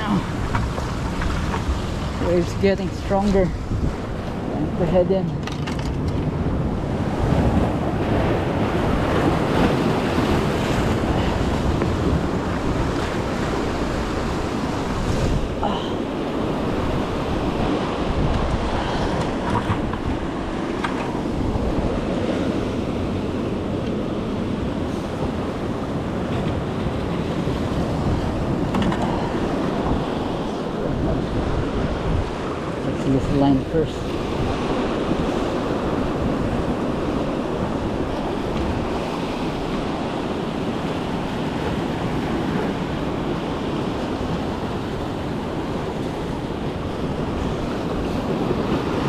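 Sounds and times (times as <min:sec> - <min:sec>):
ocean surf breaking on rocks: 0:00.0 - 0:49.0
wind buffeting microphone: 0:00.0 - 0:49.0.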